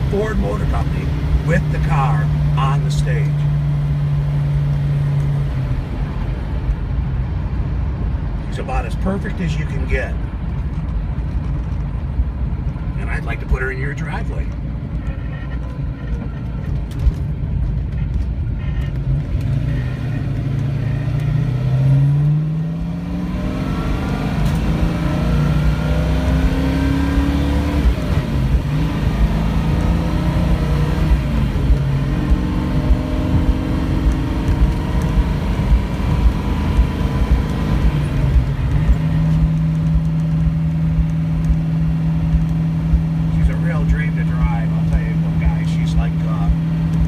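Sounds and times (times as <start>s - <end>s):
car engine revving: 0.0s - 10.3s, 18.9s - 47.0s.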